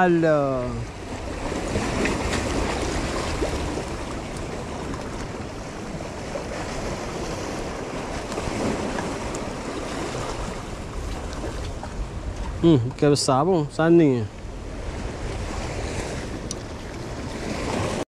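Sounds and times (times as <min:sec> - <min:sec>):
sea surf splashing on rocks: 0:00.0 - 0:18.0
wind rumbling on microphone: 0:00.6 - 0:18.0.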